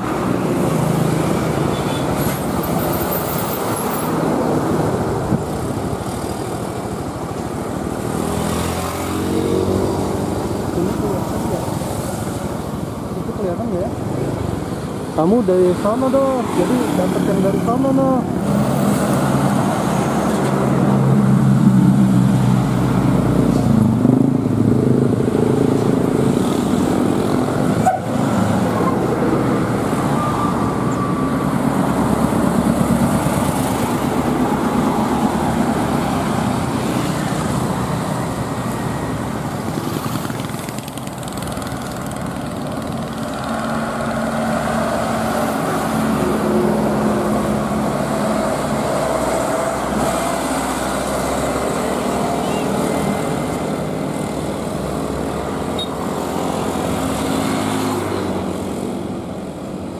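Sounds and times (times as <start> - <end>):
diesel trucks passing: 0.0 - 59.9.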